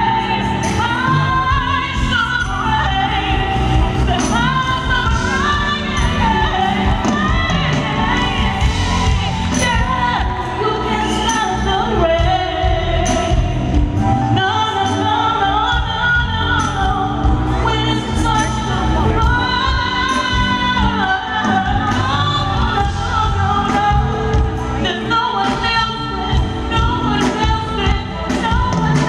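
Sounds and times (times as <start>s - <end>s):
live band playing: 0.0s - 29.0s
woman singing into microphone: 0.0s - 29.0s.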